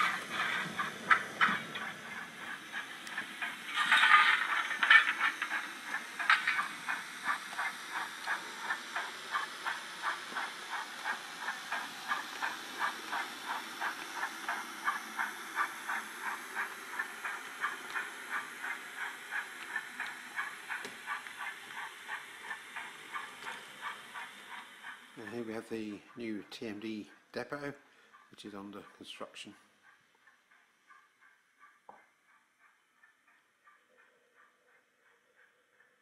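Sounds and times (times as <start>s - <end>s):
model locomotive exhaust chuffs: 0.0s - 36.0s.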